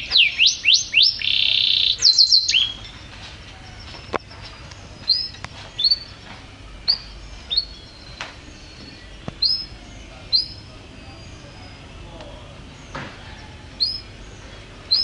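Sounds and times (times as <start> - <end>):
canary chirps: 0.0 - 15.0.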